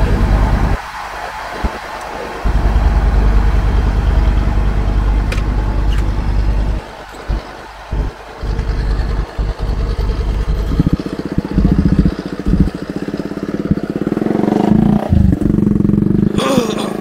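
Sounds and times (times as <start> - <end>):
engine running and revving: 0.0 - 17.0.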